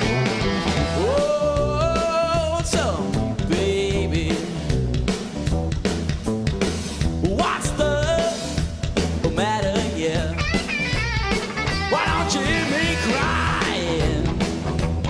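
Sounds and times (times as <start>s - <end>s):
blues-rock band playing live: 0.0s - 15.0s.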